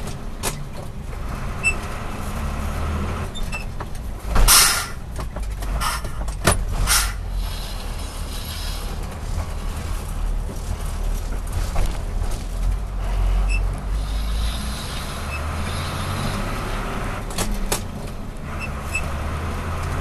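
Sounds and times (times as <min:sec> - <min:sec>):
truck engine hum from cab: 0:00.0 - 0:20.0.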